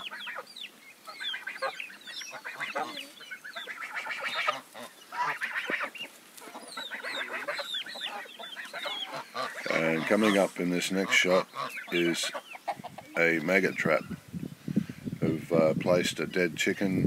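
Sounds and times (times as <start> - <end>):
geese honking: 0.0 - 14.2
chickens clucking: 0.0 - 16.8.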